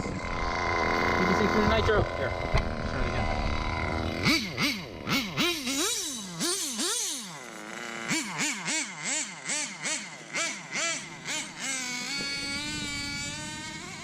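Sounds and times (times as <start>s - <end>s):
rc car engine revving: 0.0s - 14.0s.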